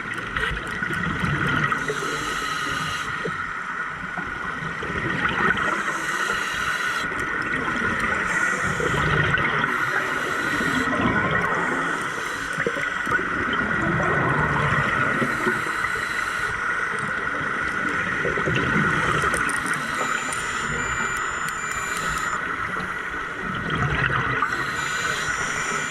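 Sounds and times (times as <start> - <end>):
underwater bubbles gurgling: 0.0 - 25.9
steady high hum: 1.7 - 4.5, 5.4 - 25.9.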